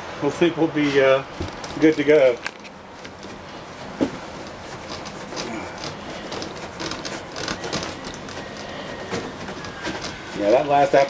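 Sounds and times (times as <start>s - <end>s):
rag rubbing plastic curtain: 1.6s - 11.0s.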